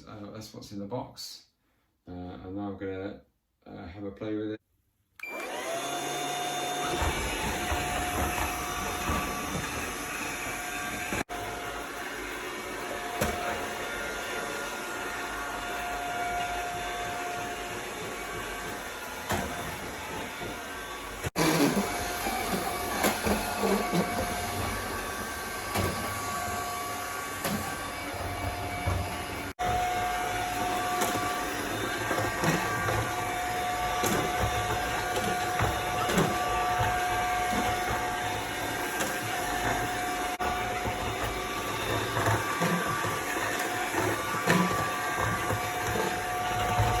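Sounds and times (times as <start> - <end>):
robotic vacuum motor whine: 5.2 - 47.0.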